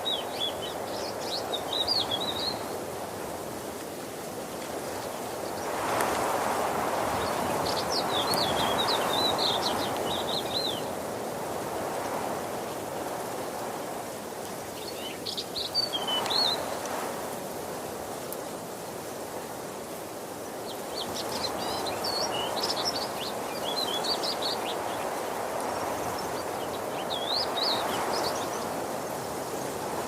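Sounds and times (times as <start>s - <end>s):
waterfall rushing: 0.0s - 13.0s, 14.2s - 17.3s, 19.7s - 30.0s.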